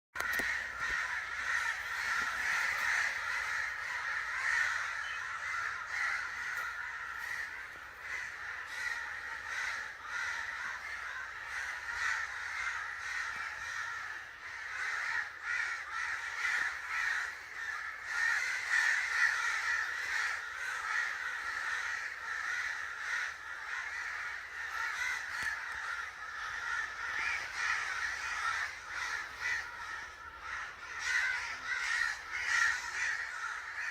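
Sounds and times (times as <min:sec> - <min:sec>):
crows cawing: 0:00.2 - 0:33.9.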